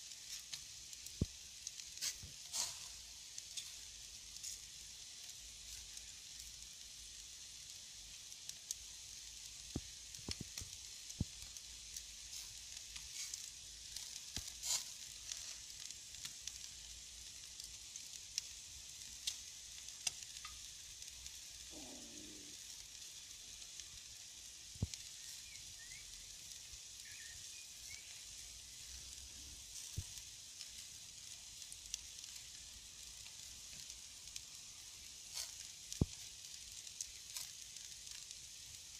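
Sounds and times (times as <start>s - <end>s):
crackles and pops: 0.0s - 38.9s
meat sizzling on grill: 0.0s - 38.9s.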